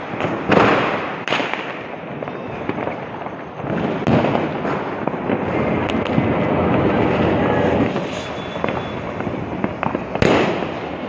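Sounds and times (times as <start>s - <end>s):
firecrackers crackling and popping: 0.0s - 11.0s
firework bangs: 0.0s - 11.0s.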